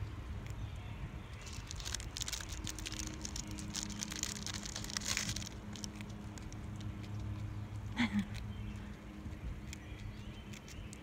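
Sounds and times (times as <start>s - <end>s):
low steady rumble: 0.0s - 11.0s
squirrel crunching food: 0.0s - 11.0s.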